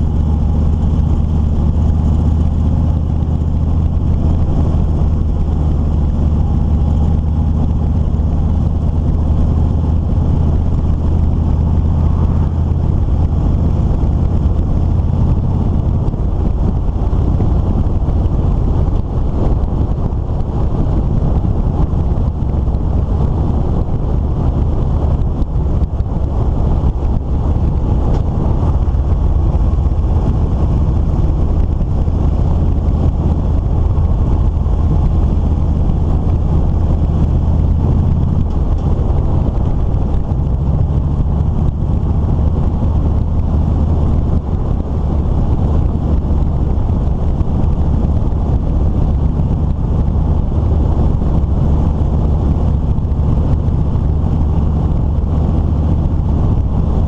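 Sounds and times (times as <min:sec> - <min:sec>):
vehicle engine humming: 0:00.0 - 0:57.0
wind on microphone: 0:00.0 - 0:57.0.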